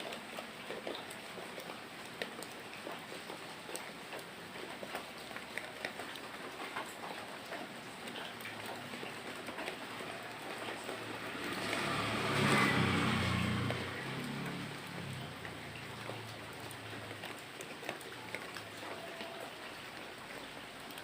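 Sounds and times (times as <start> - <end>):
drips ticking: 0.0 - 21.0
steady rain: 0.0 - 21.0.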